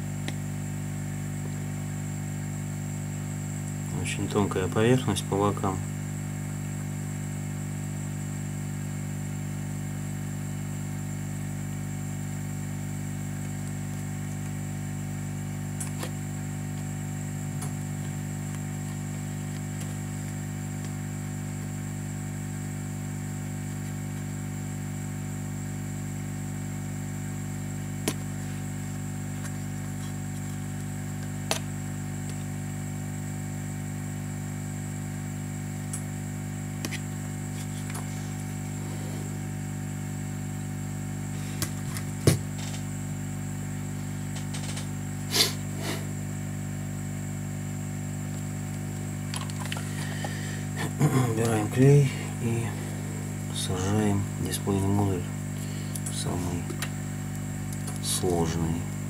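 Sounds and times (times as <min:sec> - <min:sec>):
faint high whine: 0:00.0 - 0:09.1, 0:11.4 - 0:59.0
electrical hum: 0:00.0 - 0:59.0.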